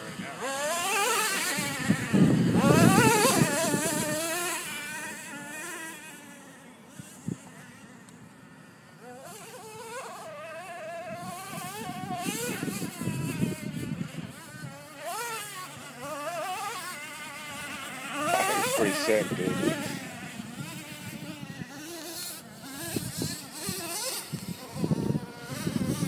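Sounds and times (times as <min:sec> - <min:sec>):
toy truck motor whining: 0:00.0 - 0:26.0.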